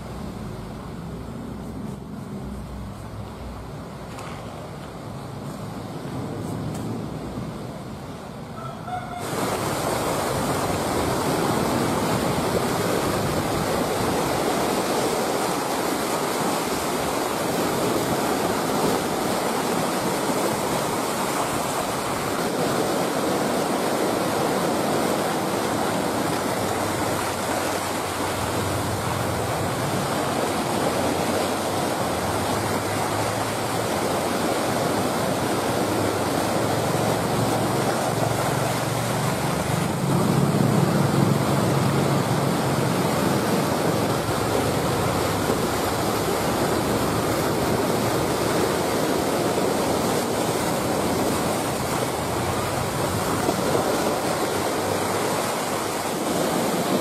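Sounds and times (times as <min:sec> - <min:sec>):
sea surf rushing: 0:00.0 - 0:57.0
wind: 0:00.0 - 0:57.0.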